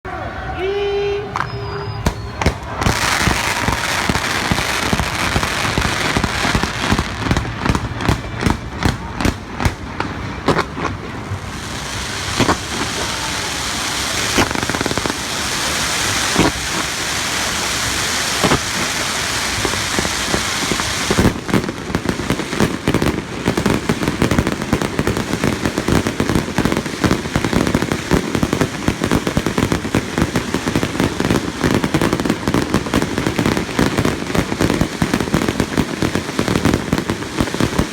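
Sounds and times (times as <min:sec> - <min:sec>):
fireworks crackling: 0:01.0 - 0:37.9
fireworks bursting with bangs: 0:01.4 - 0:37.9.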